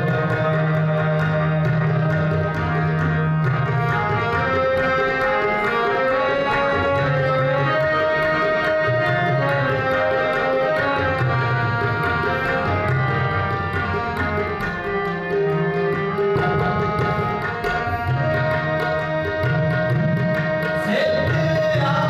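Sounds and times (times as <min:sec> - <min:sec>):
harmonium melody: 0:00.0 - 0:22.0
tabla strokes: 0:00.0 - 0:22.0.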